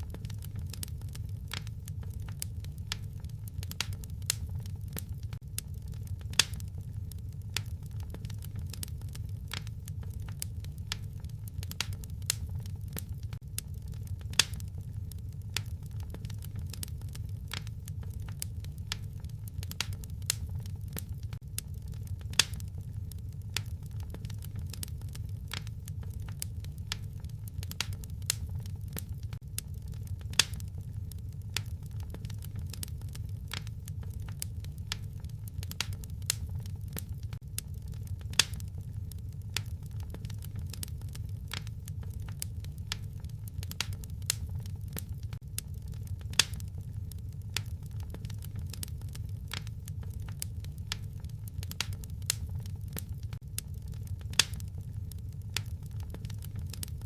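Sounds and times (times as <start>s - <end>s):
fire pops and crackles: 0.0s - 57.0s
low rumble of fire: 0.0s - 57.0s.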